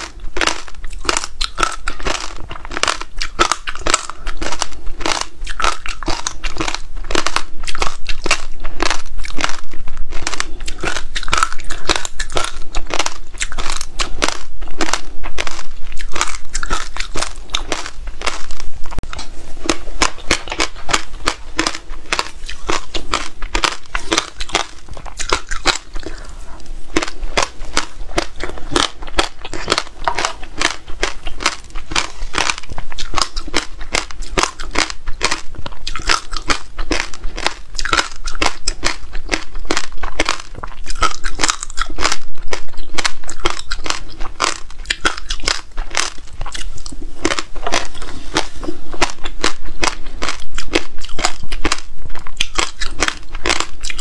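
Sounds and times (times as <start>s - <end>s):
crunching and chewing frozen fruit: 0.0s - 54.0s.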